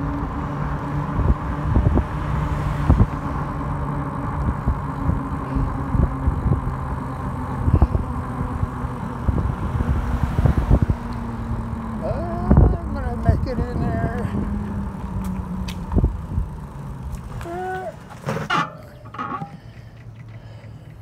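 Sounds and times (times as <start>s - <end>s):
bike rattling over bumps: 0.0s - 21.0s
electric bike motor hum: 0.0s - 21.0s
wind and road noise: 0.0s - 21.0s.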